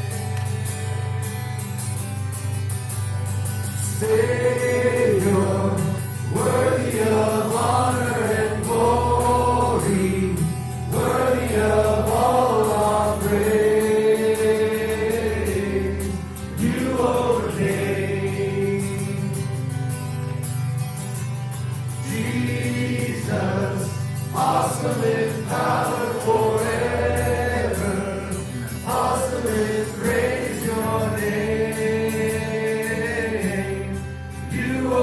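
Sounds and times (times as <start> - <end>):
voices singing worship song: 3.7 - 19.7, 21.9 - 35.0.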